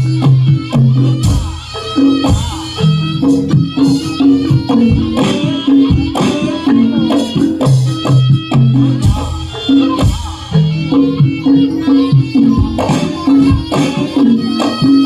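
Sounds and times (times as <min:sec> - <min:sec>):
drums: 0:00.0 - 0:15.0
pitched percussion: 0:00.0 - 0:15.0.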